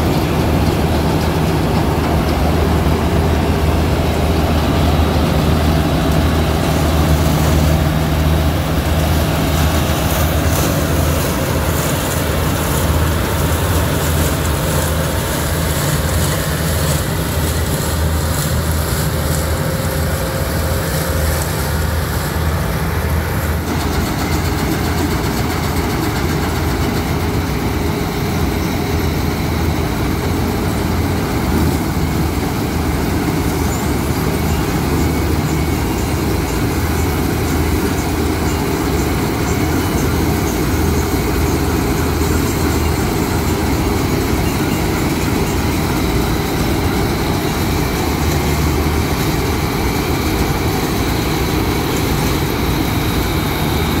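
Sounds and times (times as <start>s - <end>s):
combine harvester drone: 0.0s - 54.0s.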